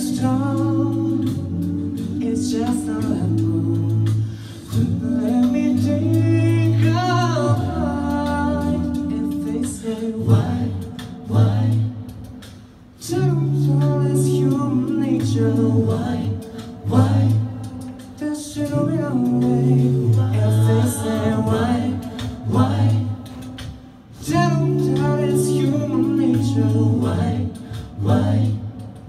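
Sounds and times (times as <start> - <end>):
a cappella group singing: 0.0 - 29.0
vocal percussion beats: 0.0 - 29.0.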